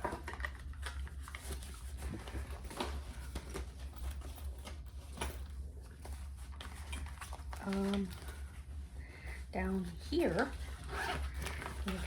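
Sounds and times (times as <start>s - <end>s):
small items rustling and clicking: 0.0s - 8.8s, 10.0s - 12.0s
steady low hum: 0.5s - 12.0s.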